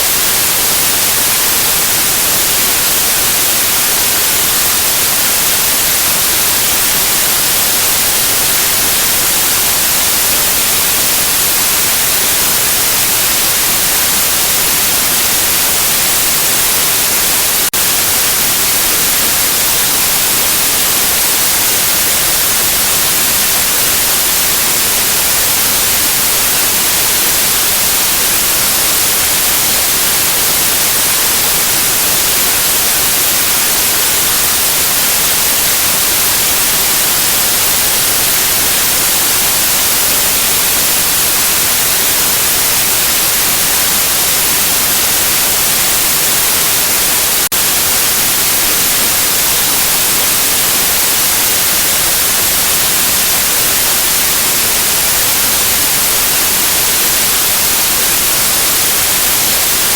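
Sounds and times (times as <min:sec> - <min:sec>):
loud white noise hiss: 0:00.0 - 0:59.9.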